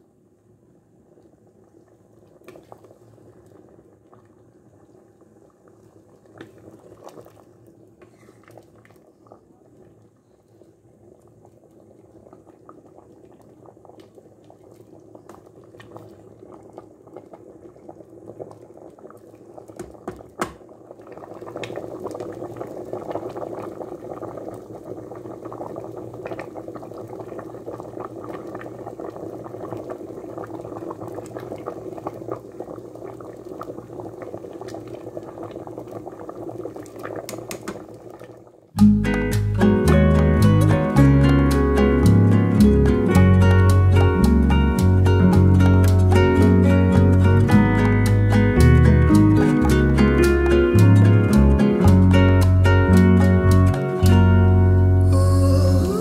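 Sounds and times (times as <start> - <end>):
stew bubbling in a pot: 0.0 - 56.0.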